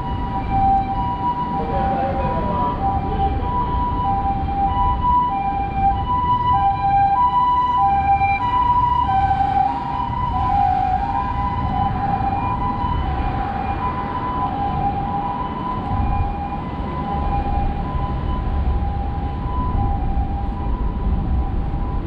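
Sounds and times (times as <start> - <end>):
road traffic rumble: 0.0 - 22.0
two-tone ambulance siren: 0.0 - 22.0.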